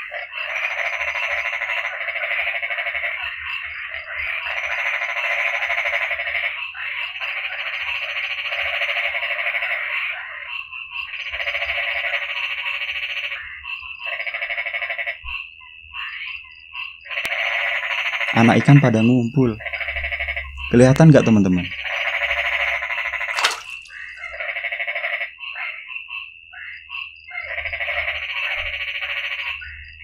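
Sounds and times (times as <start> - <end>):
frogs trilling: 0.0 - 30.0.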